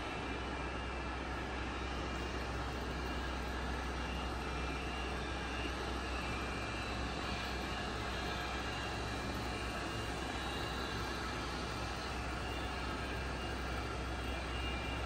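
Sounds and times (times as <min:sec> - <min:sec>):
milling machine spindle humming: 0:00.0 - 0:15.0.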